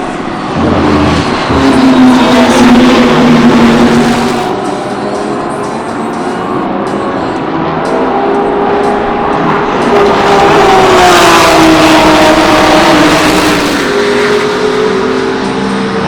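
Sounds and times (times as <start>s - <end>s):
race car engine passing: 0.0s - 16.0s.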